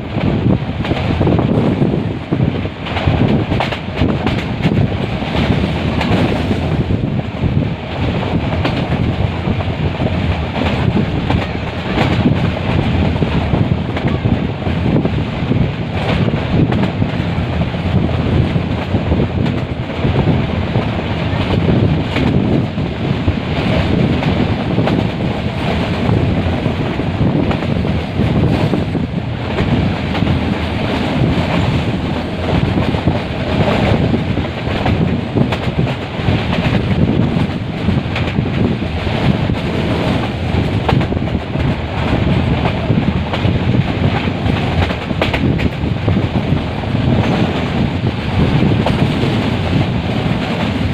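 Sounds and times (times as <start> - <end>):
train rumbling: 0.0 - 50.9
wind buffeting microphone: 0.0 - 50.9.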